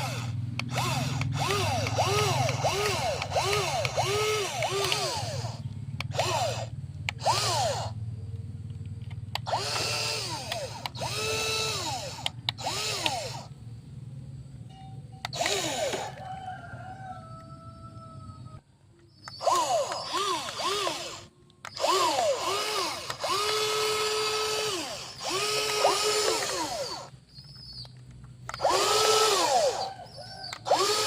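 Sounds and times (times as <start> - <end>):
small electric motors whining: 0.0 - 13.8, 15.2 - 16.4, 17.2 - 31.0
steady low hum: 0.0 - 31.0.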